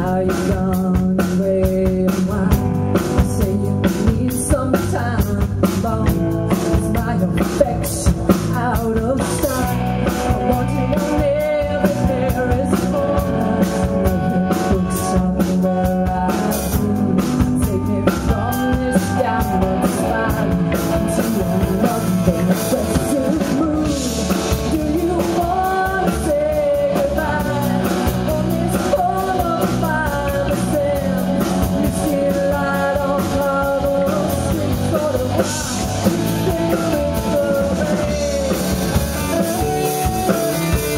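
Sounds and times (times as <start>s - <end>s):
drum kit beat: 0.0s - 40.9s
electric bass: 0.0s - 40.9s
electric guitar: 0.0s - 40.9s
person singing: 0.0s - 40.9s.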